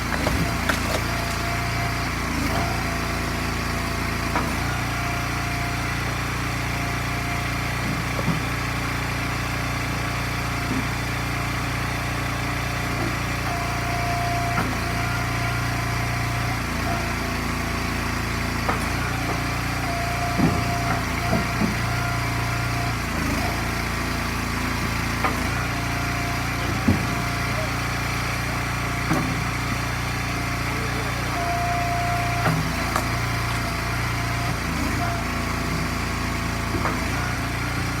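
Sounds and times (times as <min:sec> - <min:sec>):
log splitter engine running: 0:00.0 - 0:38.0.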